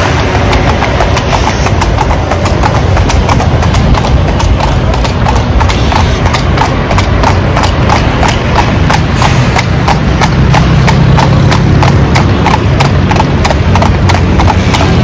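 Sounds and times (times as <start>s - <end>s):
horse hooves on asphalt: 0.0s - 15.0s
street traffic rumble: 0.0s - 15.0s.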